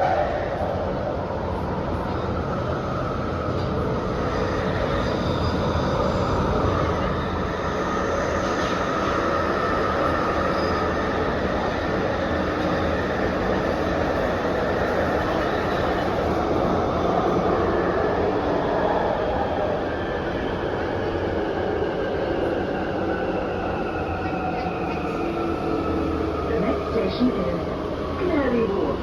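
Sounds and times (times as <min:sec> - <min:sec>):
train wheels rumbling on rail: 0:00.0 - 0:29.0
train whine: 0:00.0 - 0:29.0.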